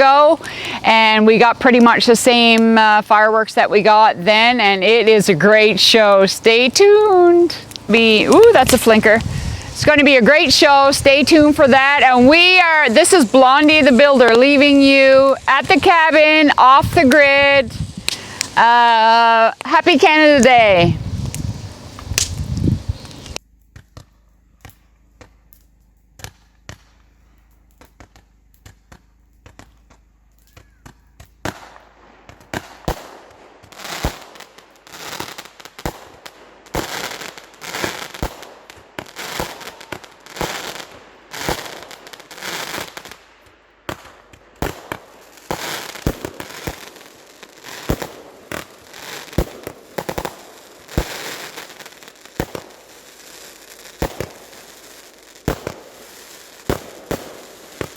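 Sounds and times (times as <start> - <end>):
fireworks crackling and banging: 0.0 - 57.9.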